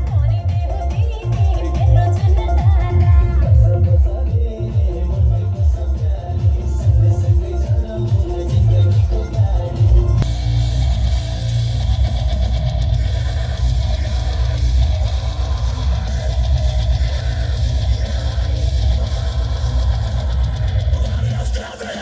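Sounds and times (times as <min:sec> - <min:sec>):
bass-heavy music through subwoofer: 0:00.0 - 0:22.0.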